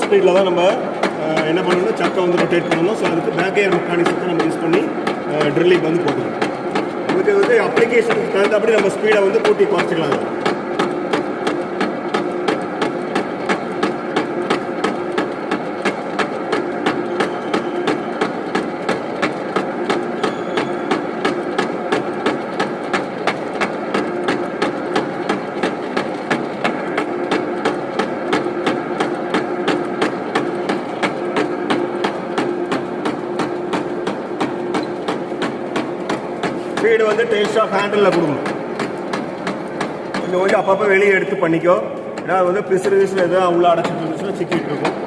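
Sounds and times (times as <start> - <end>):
lathe humming with regular knock: 0.0 - 45.0.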